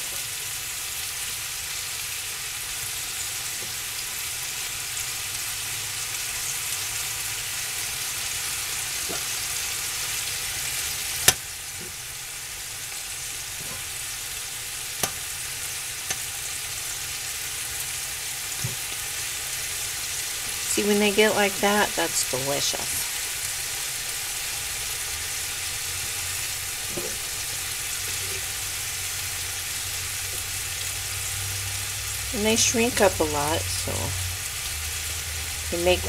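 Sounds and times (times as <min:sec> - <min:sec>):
steaks sizzling in a skillet: 0:00.0 - 0:36.0.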